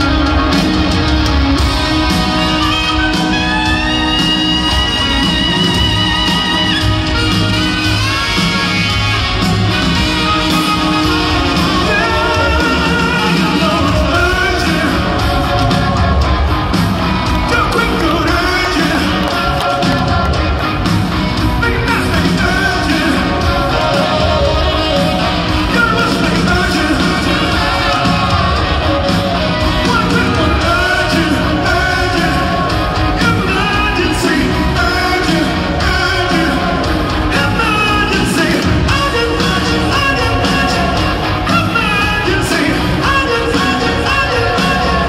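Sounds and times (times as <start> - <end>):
bass guitar: 0.0 - 45.0
drums: 0.0 - 45.0
electric guitars: 0.0 - 45.0
lead singer singing: 0.0 - 45.0.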